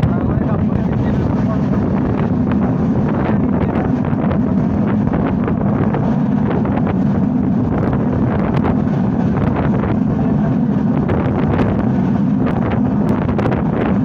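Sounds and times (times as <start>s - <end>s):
train rumbling: 0.0s - 14.0s
wind buffeting microphone: 0.0s - 14.0s.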